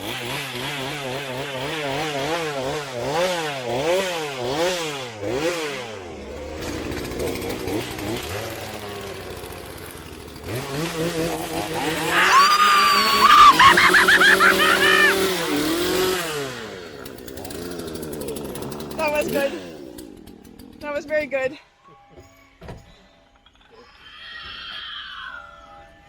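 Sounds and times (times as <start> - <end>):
chainsaw engine revving: 0.0 - 21.6.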